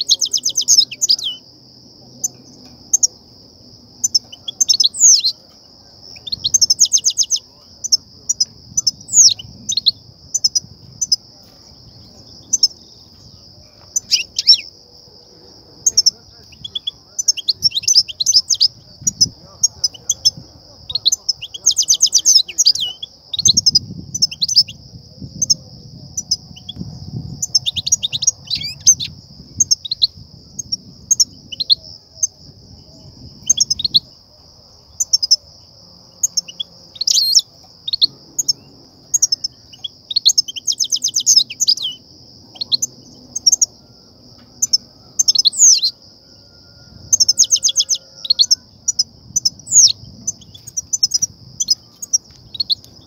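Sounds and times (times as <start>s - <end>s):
finches chirping and rattling: 0.0s - 1.5s, 2.1s - 34.2s, 34.8s - 35.4s, 36.0s - 46.0s, 47.1s - 53.0s
steady high-pitched hiss: 0.0s - 53.0s.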